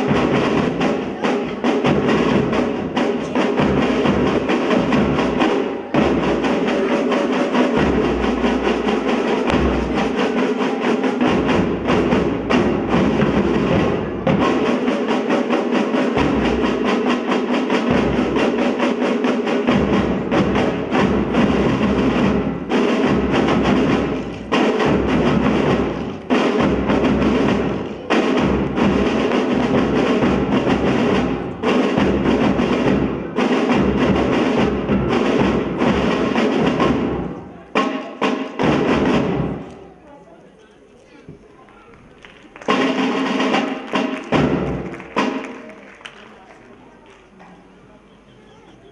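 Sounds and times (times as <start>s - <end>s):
drums struck: 0.0s - 39.7s, 42.7s - 45.7s.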